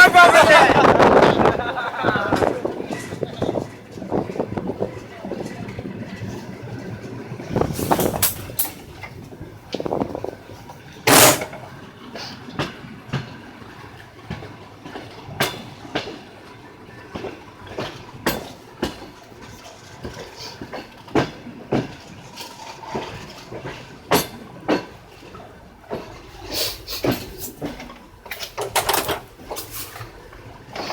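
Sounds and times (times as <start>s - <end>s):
train rumble: 0.0s - 30.9s
train wheels clicking over joints: 0.0s - 30.9s.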